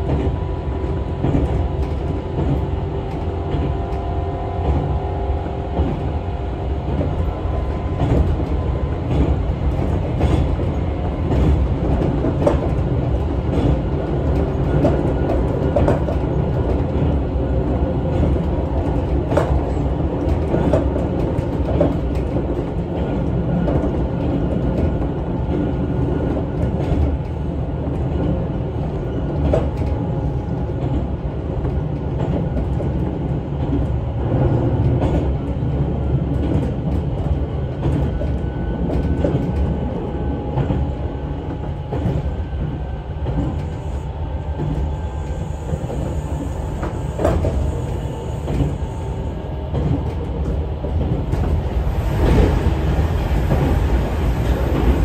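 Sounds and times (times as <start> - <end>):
train wheels and motors rumbling: 0.0 - 55.0.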